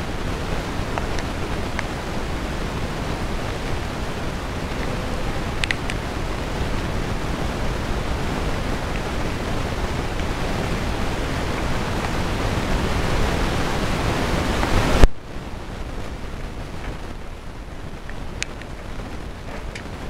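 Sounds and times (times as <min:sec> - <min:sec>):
loud rushing noise: 0:00.0 - 0:20.0.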